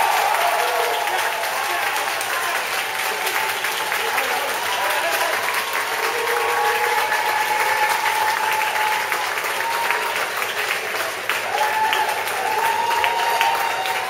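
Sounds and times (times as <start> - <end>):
audience clapping: 0.0 - 14.0
people cheering: 0.0 - 14.0.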